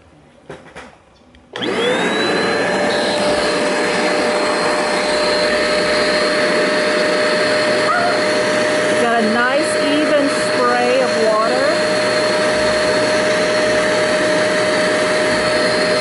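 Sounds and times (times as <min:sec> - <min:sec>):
suction motor whining: 0:01.6 - 0:16.0.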